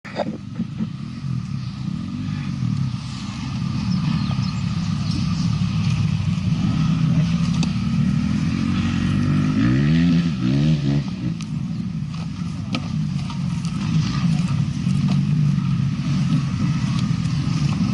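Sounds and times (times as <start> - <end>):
motorcycle engines idling and revving: 0.0 - 17.9.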